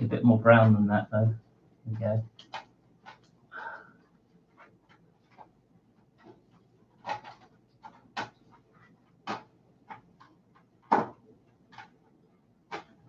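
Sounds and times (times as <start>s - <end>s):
paintbrush tapping and scratching: 0.0s - 13.0s.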